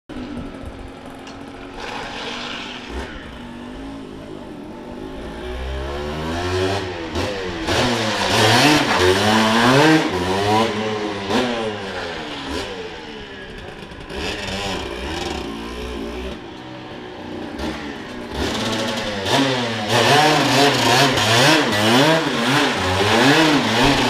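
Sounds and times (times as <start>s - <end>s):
motorcycle engine revving: 0.1s - 24.0s.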